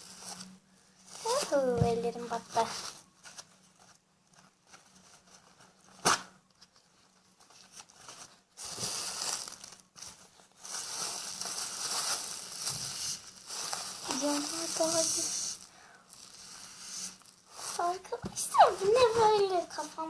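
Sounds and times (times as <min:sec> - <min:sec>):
plastic bag crinkling: 0:00.0 - 0:06.0, 0:07.3 - 0:20.0.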